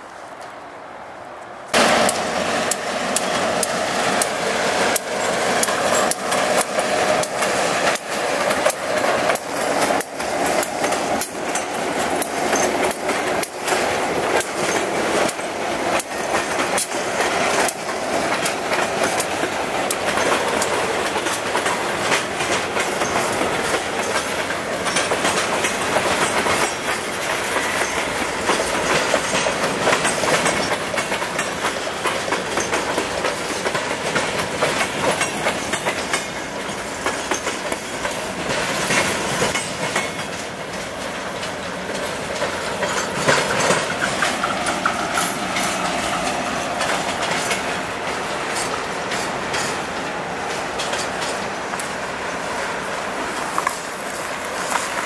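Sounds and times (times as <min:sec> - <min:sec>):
freight train rumbling past: 0:00.0 - 0:55.0
wheels clacking over rail joints: 0:01.7 - 0:55.0.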